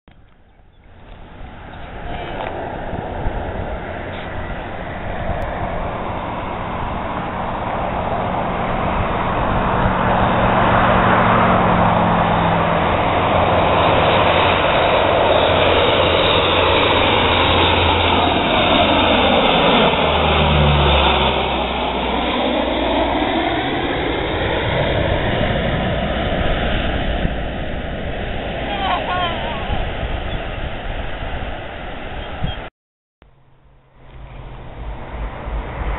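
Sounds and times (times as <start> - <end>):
turboprop aircraft passing overhead: 0.1 - 35.9.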